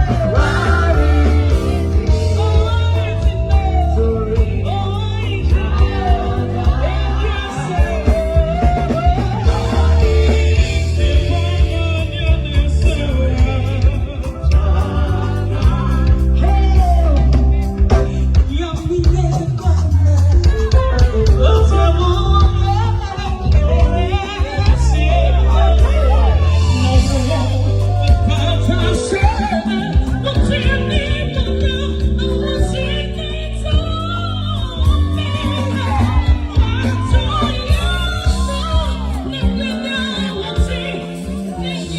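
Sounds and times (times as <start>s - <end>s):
drum beats: 0.0s - 41.9s
gospel song with band: 0.0s - 41.9s
heavy bass line: 0.0s - 41.9s.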